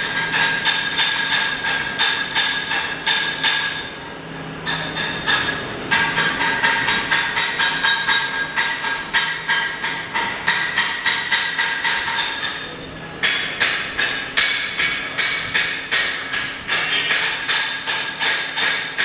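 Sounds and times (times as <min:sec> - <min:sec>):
hammer striking steel: 0:00.0 - 0:03.9, 0:04.6 - 0:19.0.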